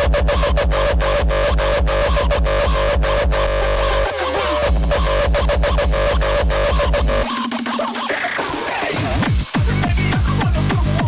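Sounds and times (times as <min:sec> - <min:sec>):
hard dance electronic music: 0:00.0 - 0:11.0.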